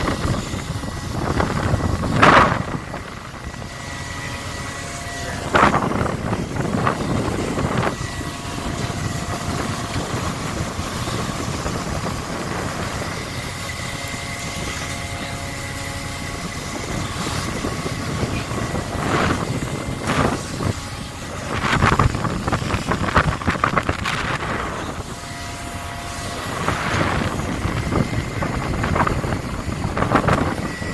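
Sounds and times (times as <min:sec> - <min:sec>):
boat engine drone: 0:00.0 - 0:30.9
deck machinery: 0:00.0 - 0:30.9
steady tones: 0:00.0 - 0:30.9
wind on microphone: 0:00.0 - 0:30.9.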